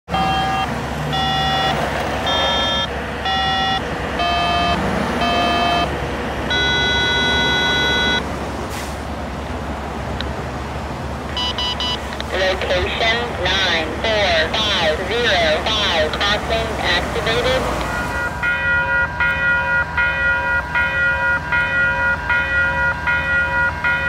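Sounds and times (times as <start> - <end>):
low traffic rumble: 0.1 - 24.0.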